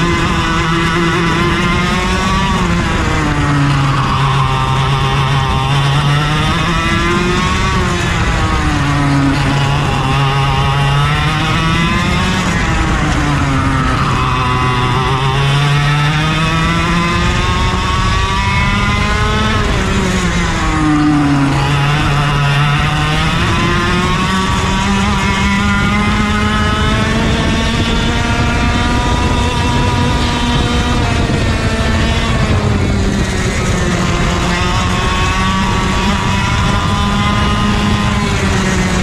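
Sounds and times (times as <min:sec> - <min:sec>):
go-kart engine revving: 0:00.0 - 0:39.0.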